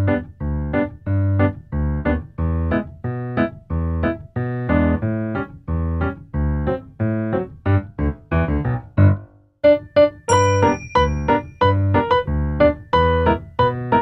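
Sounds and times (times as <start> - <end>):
piano music with repeated chords: 0.0 - 14.0.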